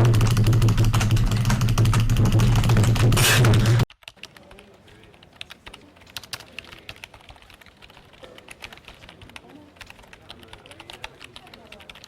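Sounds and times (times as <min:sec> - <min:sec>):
computer keyboard typing: 0:00.0 - 0:12.0.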